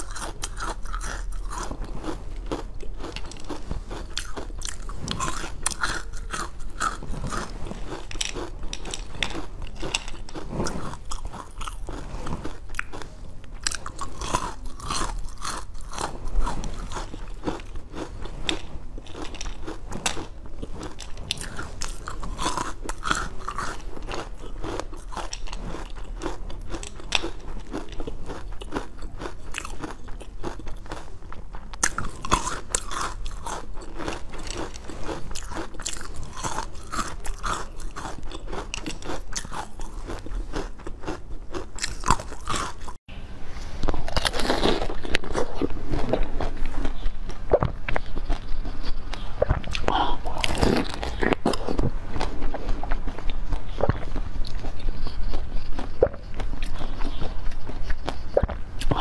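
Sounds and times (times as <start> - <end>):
chewing and biting jelly candy: 0.0 - 43.0, 44.0 - 59.0.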